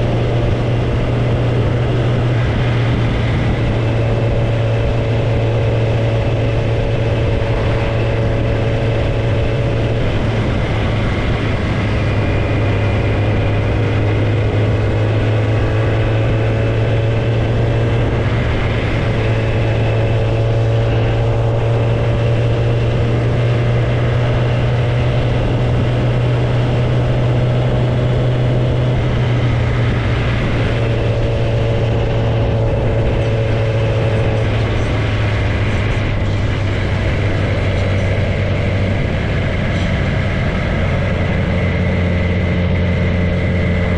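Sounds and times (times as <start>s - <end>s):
motorcycle engine cruising: 0.0s - 43.9s.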